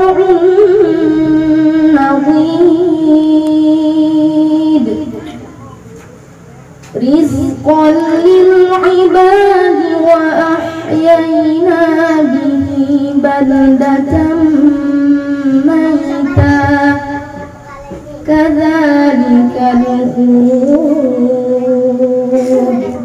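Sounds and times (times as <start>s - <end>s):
boy chanting melodically: 0.0s - 6.0s, 6.9s - 23.0s.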